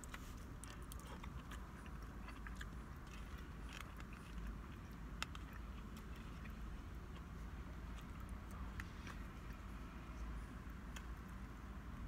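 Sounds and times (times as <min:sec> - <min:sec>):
person chewing and biting: 0:00.0 - 0:09.8
low steady hum: 0:00.0 - 0:12.0.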